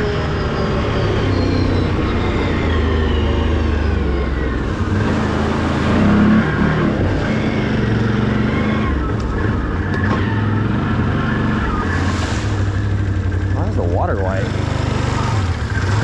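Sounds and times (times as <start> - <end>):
high whine: 0.0 - 16.0
off-road vehicle engine: 0.0 - 16.0.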